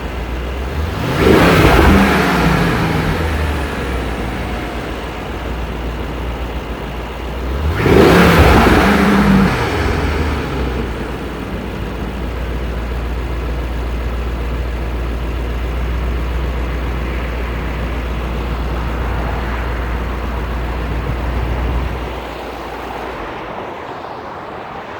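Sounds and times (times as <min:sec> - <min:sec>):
car engine idling: 0:00.0 - 0:24.1.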